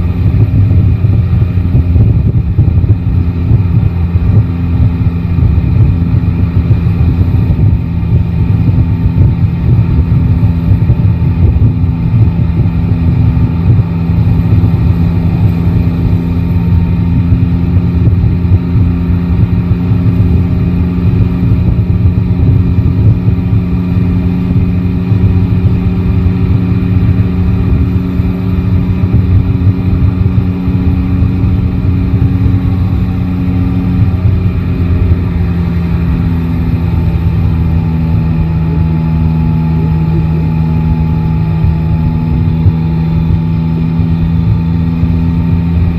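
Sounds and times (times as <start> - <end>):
motorcycle engine running: 0.0 - 45.9
road and wind rumble: 0.0 - 45.9.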